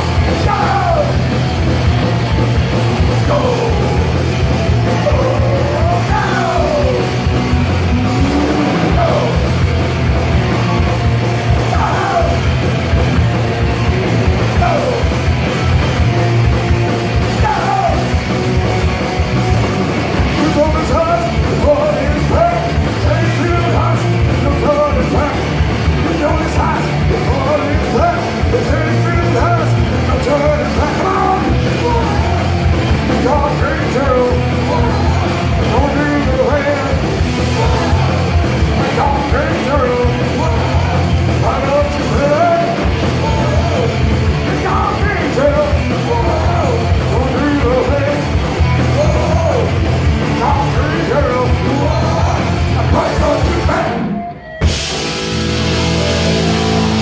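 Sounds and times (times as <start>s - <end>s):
singer shouting: 0.0s - 1.4s, 3.0s - 9.8s, 10.4s - 12.9s, 14.2s - 15.4s, 17.1s - 18.4s, 20.3s - 54.8s
bass and drums: 0.0s - 57.0s
distorted electric guitars: 0.0s - 57.0s.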